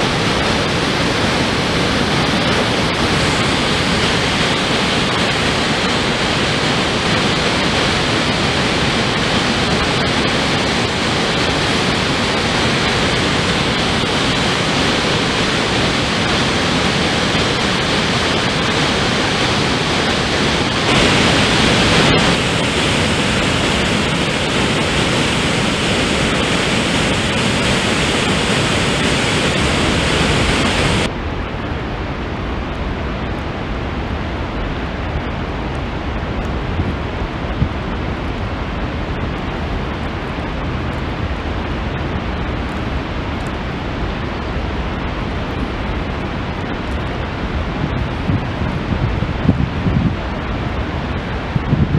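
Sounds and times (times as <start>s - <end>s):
water rushing down a spillway: 0.0s - 51.9s.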